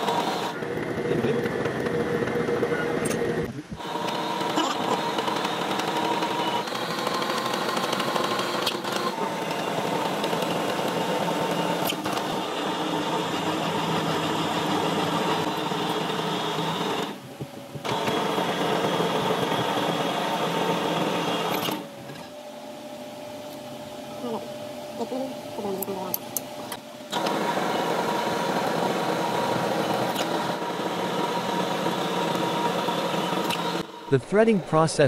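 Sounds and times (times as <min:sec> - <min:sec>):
metal lathe cutting thread: 0:00.0 - 0:17.2, 0:17.9 - 0:21.9, 0:27.1 - 0:34.2.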